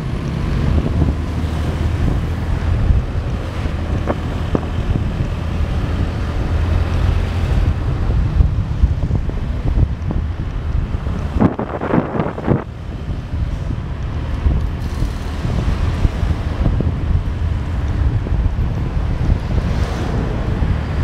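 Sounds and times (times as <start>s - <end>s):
motorbike engine rumble: 0.0s - 21.0s
road noise: 0.0s - 21.0s
wind buffeting microphone: 0.0s - 21.0s.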